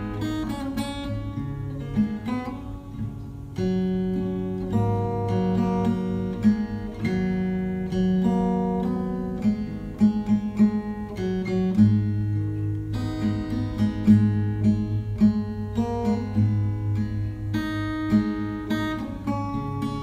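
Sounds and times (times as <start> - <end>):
acoustic guitar: 0.0 - 20.0.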